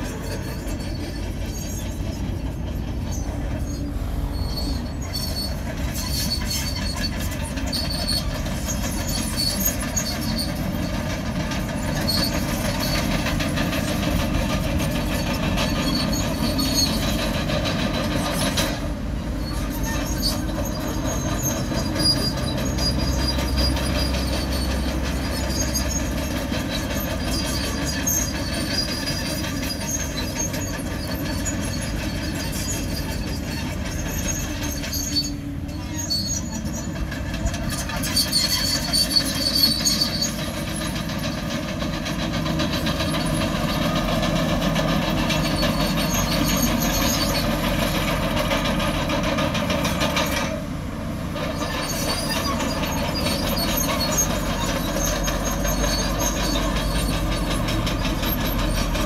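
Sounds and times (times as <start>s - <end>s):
bulldozer diesel engine rumble: 0.0s - 59.0s
crawler tracks squealing and clanking: 0.0s - 59.0s.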